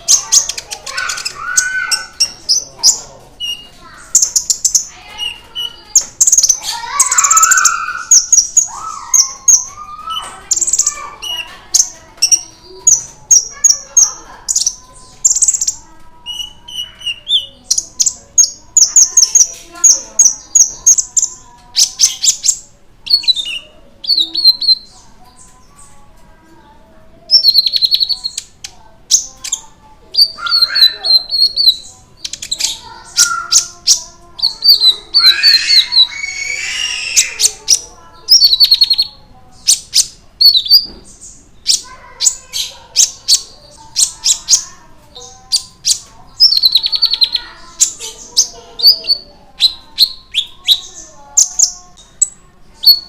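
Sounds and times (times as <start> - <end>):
sunbird chirping and trilling: 0.0 - 53.0.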